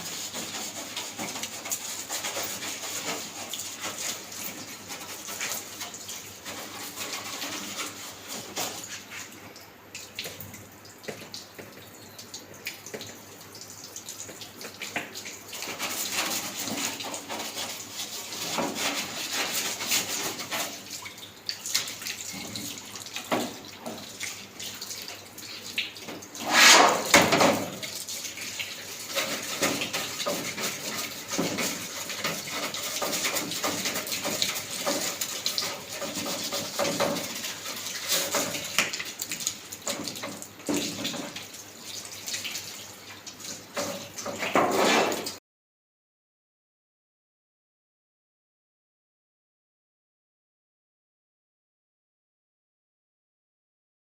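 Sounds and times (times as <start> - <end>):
water running and splashing: 0.0 - 45.4.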